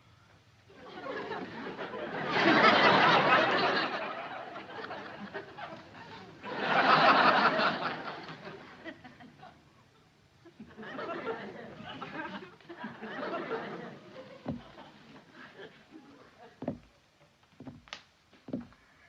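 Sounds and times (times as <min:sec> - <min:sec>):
audience laughter: 0:00.8 - 0:09.8, 0:10.4 - 0:16.7.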